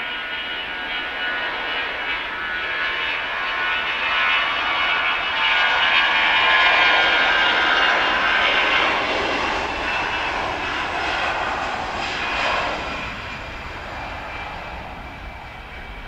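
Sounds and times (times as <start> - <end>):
jet engines roaring and whining: 0.0 - 16.0.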